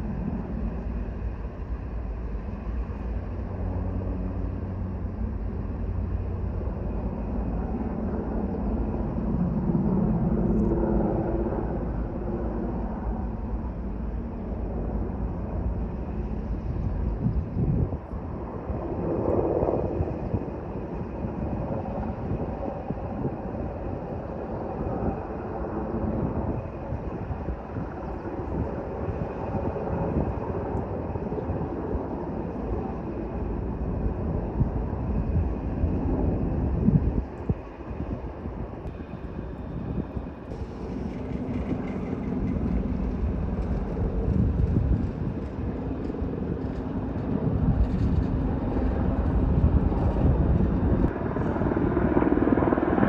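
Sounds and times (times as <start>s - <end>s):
aircraft engine droning overhead: 0.0s - 53.0s.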